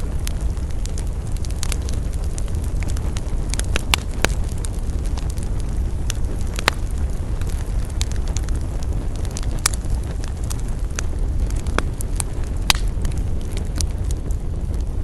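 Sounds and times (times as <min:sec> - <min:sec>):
campfire crackling: 0:00.0 - 0:15.0
steady low rumble: 0:00.0 - 0:15.0.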